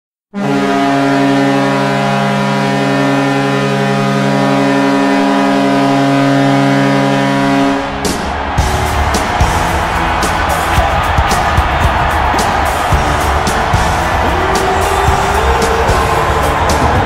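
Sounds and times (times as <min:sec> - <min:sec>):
goal horn blast: 0:00.3 - 0:17.0.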